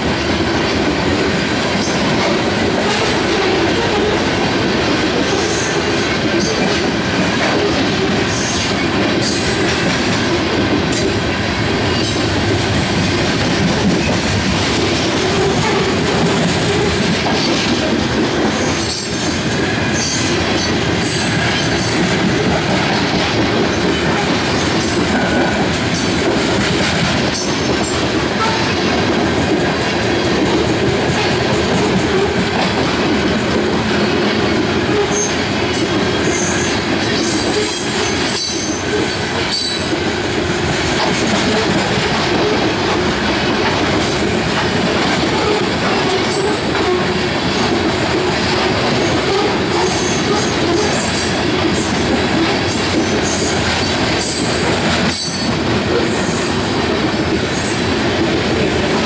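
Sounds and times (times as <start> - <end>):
freight train wheels rumbling on rail: 0.0 - 59.0.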